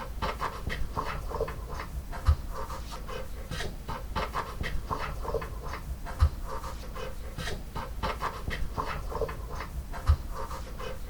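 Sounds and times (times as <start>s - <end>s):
dog panting: 0.2s - 11.0s.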